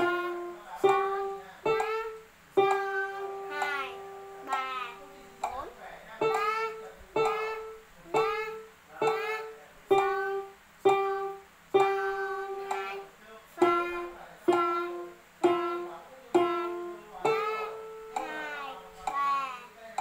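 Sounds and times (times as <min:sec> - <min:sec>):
child singing: 0:00.0 - 0:05.6, 0:06.2 - 0:19.8
electronic keyboard melody: 0:00.0 - 0:05.6, 0:06.2 - 0:18.9.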